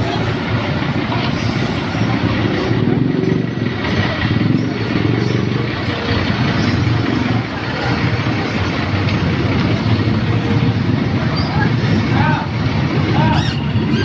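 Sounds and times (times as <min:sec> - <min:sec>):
vehicle engine running: 0:00.0 - 0:14.0
voices: 0:00.0 - 0:14.0.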